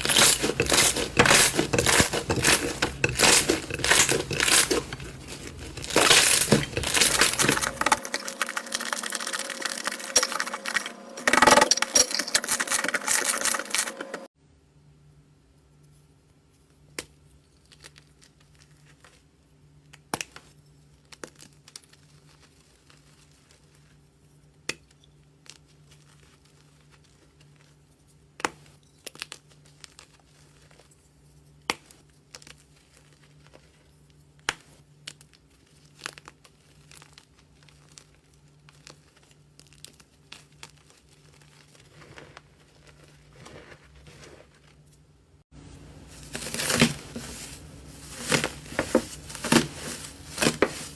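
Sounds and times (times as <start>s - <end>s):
slime crackling and crinkling: 0.0s - 14.3s, 17.5s - 24.5s, 25.2s - 50.9s.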